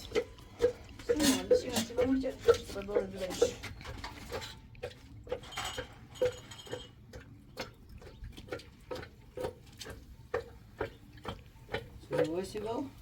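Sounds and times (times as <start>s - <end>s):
hollow rhythmic knocking: 0.0s - 13.0s.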